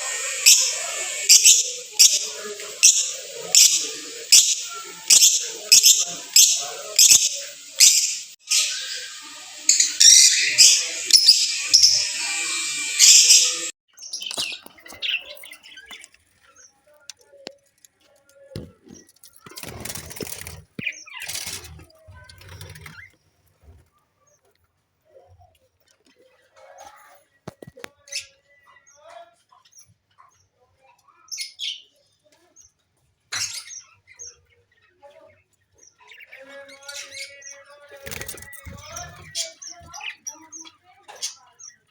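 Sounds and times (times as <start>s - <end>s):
birds chirping and chattering: 0.0s - 41.9s.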